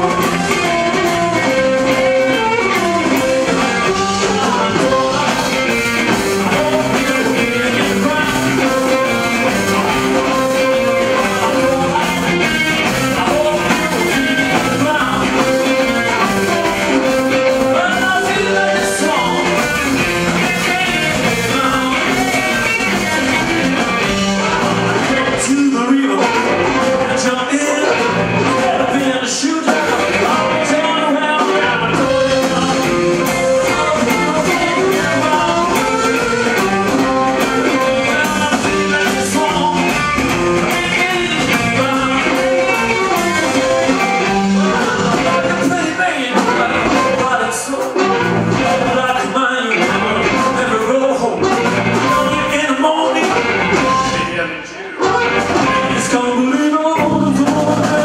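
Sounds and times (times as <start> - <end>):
blues harmonica: 0.0 - 56.3
bass guitar: 0.0 - 58.0
drum kit: 0.0 - 58.0
electric guitar: 0.0 - 58.0
man singing: 0.0 - 58.0.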